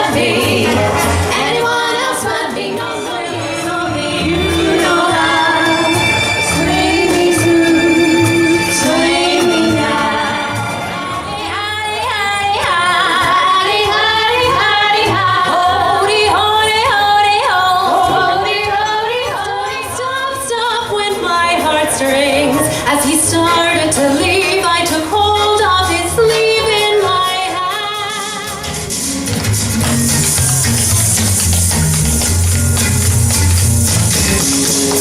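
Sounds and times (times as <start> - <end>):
band accompaniment: 0.0 - 19.6, 20.3 - 35.0
female vocal group singing: 0.0 - 28.7.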